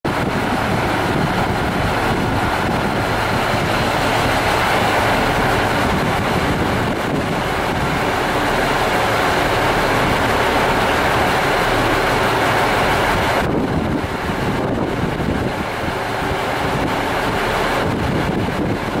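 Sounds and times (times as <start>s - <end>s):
train diesel engines roaring: 0.1s - 18.2s.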